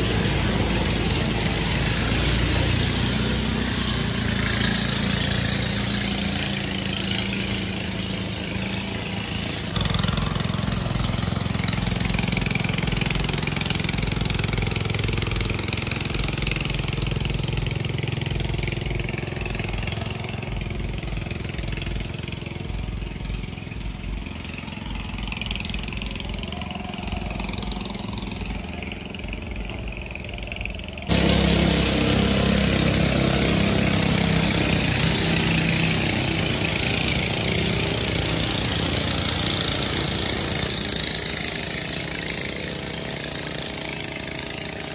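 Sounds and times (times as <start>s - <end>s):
motor engine running: 0.0s - 44.9s.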